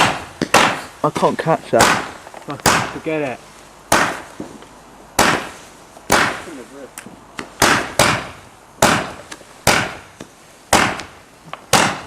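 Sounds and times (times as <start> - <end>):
fireworks bangs: 0.0 - 3.3, 3.9 - 12.0.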